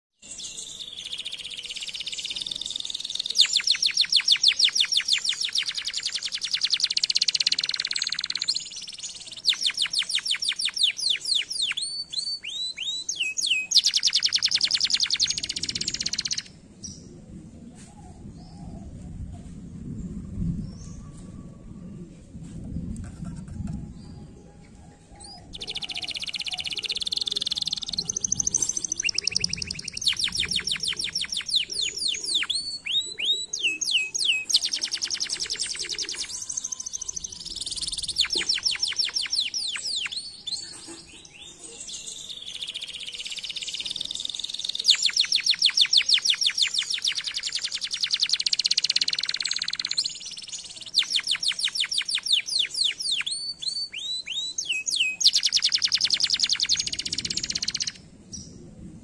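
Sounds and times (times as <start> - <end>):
canary singing trills: 0.2 - 17.0, 24.0 - 58.5.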